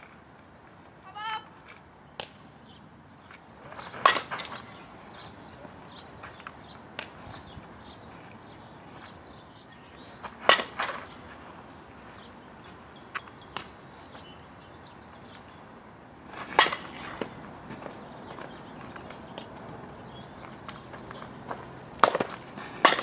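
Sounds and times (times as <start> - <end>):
quiet outdoor air: 0.0 - 23.0.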